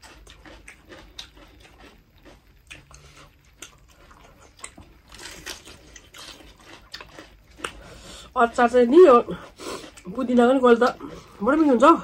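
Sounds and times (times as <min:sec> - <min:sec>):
people chewing and lip smacking: 0:00.0 - 0:08.4, 0:09.3 - 0:11.8.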